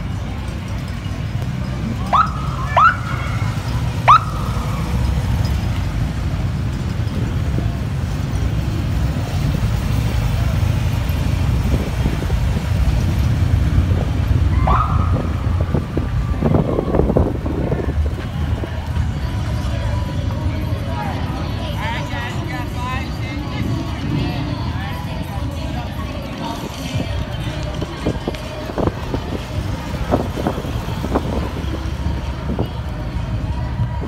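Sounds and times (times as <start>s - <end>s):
motorcycle engines rumbling: 0.0s - 34.0s.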